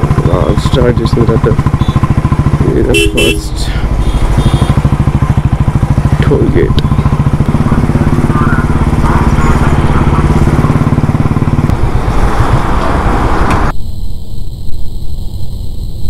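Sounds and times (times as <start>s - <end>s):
motorcycle engine running: 0.0s - 13.7s
road and wind noise: 0.0s - 16.0s.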